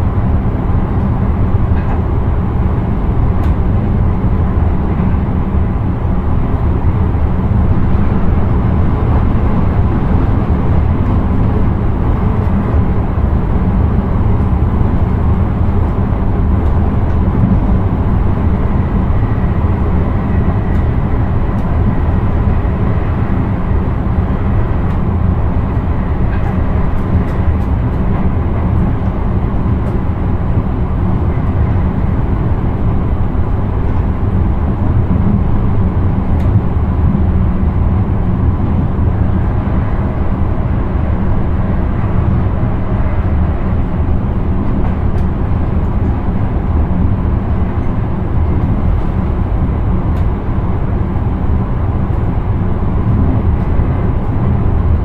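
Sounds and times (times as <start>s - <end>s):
train running at speed: 0.0s - 55.0s.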